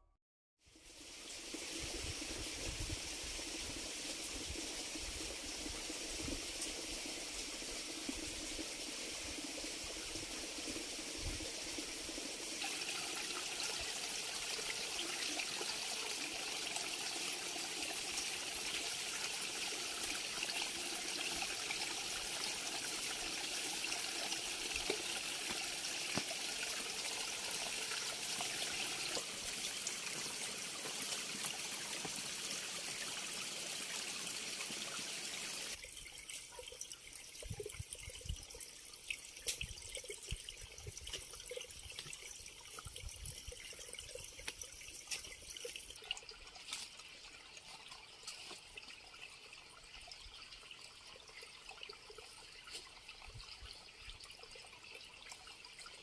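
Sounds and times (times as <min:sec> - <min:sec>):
running water rushing: 0:00.8 - 0:51.4.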